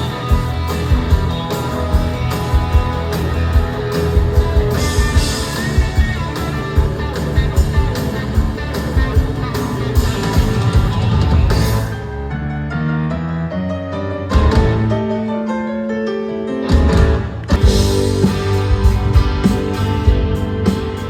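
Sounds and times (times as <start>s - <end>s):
live band playing: 0.0s - 12.4s, 13.9s - 15.6s, 16.2s - 21.0s
guitar: 0.0s - 21.0s.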